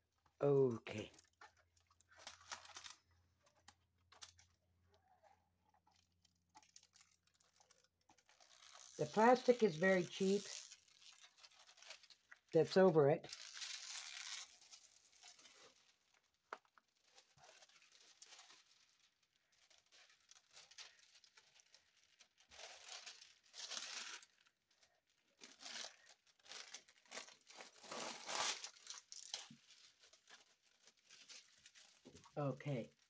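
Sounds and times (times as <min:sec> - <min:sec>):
plastic film crinkling: 0:01.0 - 0:33.0.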